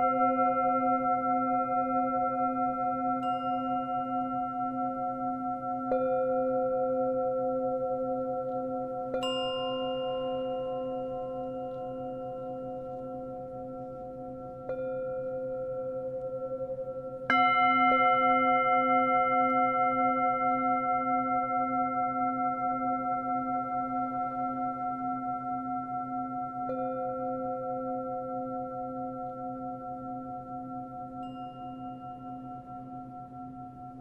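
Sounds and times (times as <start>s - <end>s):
ringing bell-like tone: 0.0s - 34.0s.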